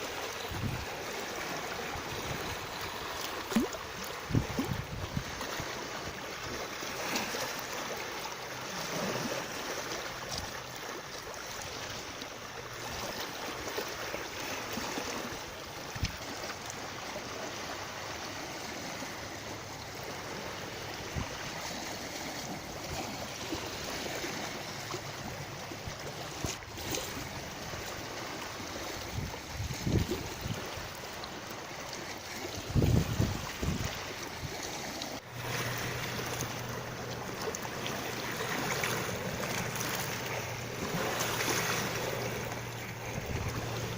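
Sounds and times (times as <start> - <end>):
running water rushing: 0.0 - 43.9.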